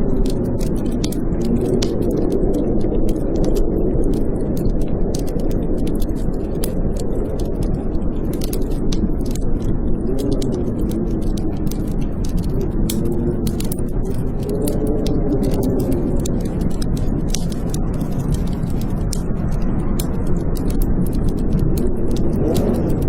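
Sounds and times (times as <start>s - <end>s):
wind howling: 0.0s - 23.0s
wood fire crackling: 0.0s - 23.0s.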